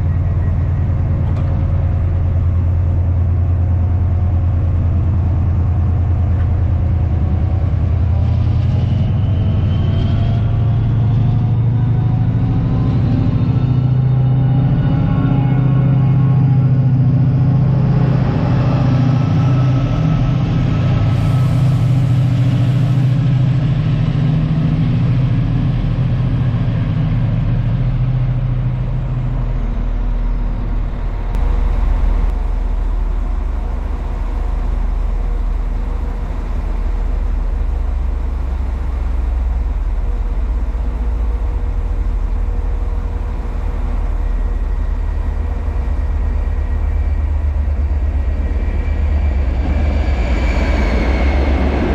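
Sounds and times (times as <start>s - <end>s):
deep engine rumble: 0.0s - 51.9s
diesel train engine humming: 0.0s - 51.9s.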